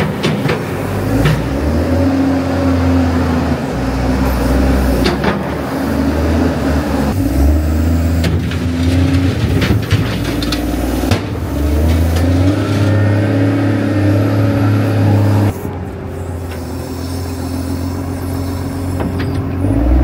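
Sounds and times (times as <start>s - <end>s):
diesel engine revving: 0.0s - 20.0s.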